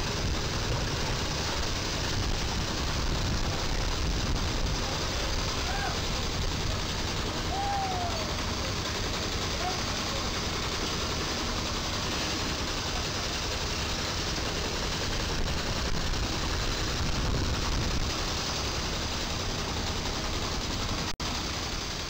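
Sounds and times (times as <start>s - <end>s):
diesel truck engine idling: 0.0s - 22.0s
street traffic: 0.0s - 22.0s.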